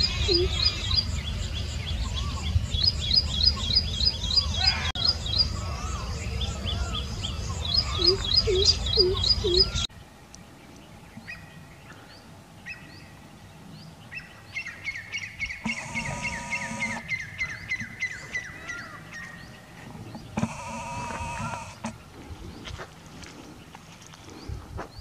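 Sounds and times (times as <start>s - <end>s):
loud steady-pitched bird calls: 0.0s - 9.9s, 11.2s - 13.2s, 13.8s - 22.2s
small birds chirping: 0.0s - 25.0s.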